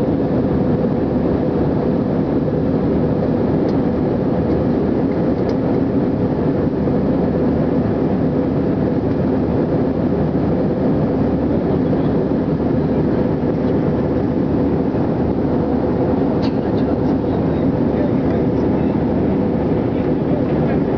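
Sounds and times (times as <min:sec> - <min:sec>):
airliner cabin drone: 0:00.0 - 0:20.9.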